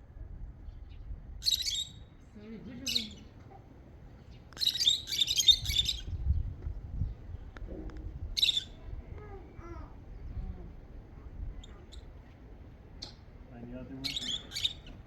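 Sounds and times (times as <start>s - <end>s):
low background rumble: 0.0s - 15.0s
small birds chirping: 0.6s - 7.6s, 8.2s - 15.0s.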